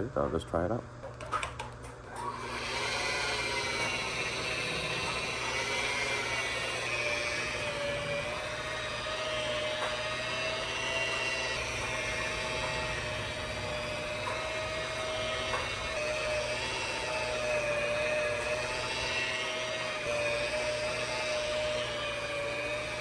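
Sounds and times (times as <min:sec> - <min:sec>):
electric polisher whining: 0:01.2 - 0:23.0.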